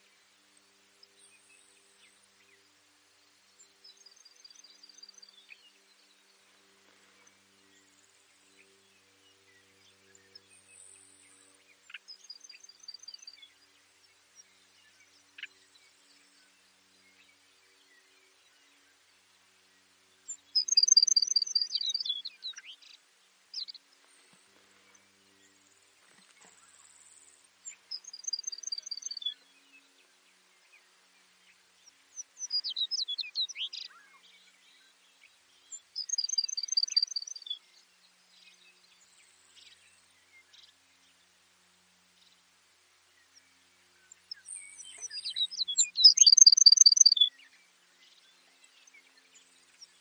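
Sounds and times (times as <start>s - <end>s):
sparrow trilling song: 3.5s - 42.5s, 43.1s - 50.0s.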